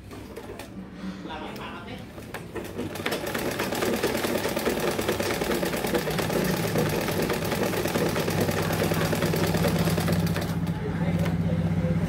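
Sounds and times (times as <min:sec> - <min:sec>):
sewing machine clattering: 0:00.0 - 0:00.8, 0:01.5 - 0:11.4.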